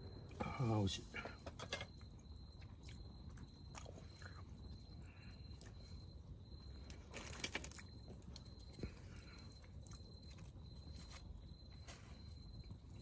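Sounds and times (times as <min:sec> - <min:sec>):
chewing and crunching food: 0:01.2 - 0:13.0.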